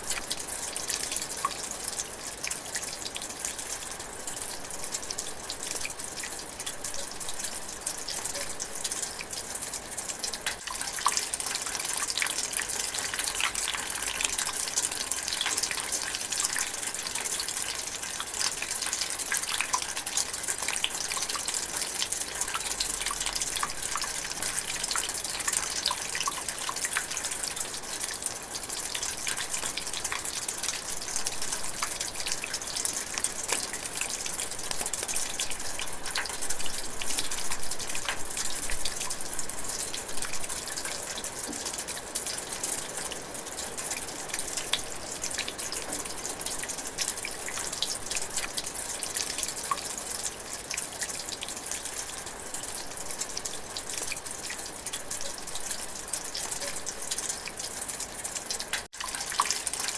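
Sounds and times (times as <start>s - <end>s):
light rain patter: 0.0s - 59.9s.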